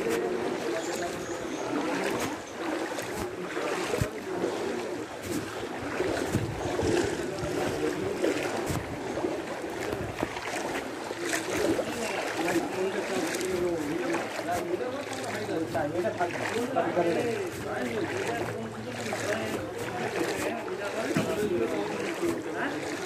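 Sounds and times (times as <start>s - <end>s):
floodwater sloshing and splashing: 0.0s - 23.0s.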